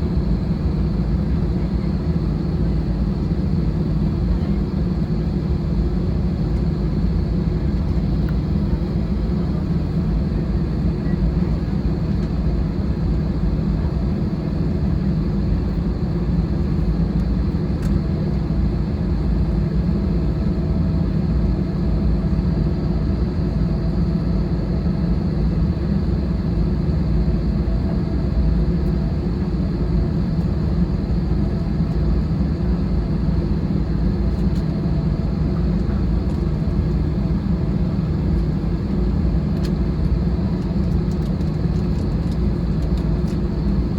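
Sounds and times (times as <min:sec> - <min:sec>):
airplane cabin rumble: 0:00.0 - 0:43.9.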